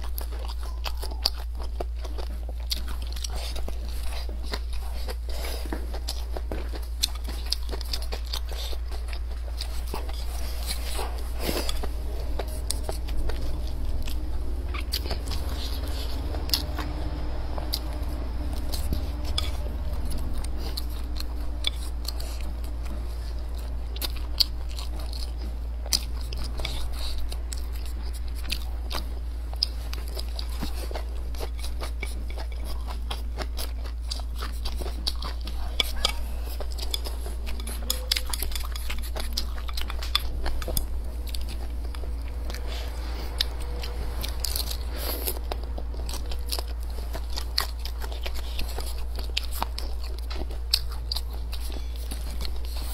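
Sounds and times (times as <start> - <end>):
person chewing food: 0.0 - 52.9
steady low hum: 0.0 - 52.9.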